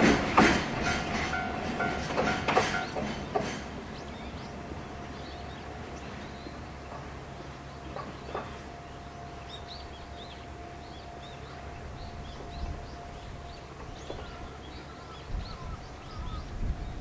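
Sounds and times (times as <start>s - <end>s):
small birds chirping: 2.8s - 17.0s.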